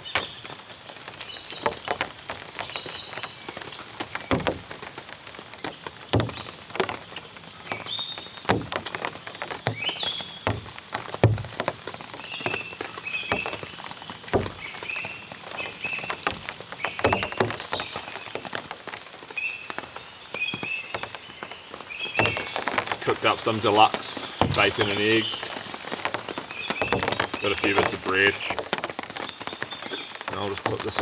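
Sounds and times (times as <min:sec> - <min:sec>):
heavy raindrops tapping: 0:00.0 - 0:31.0.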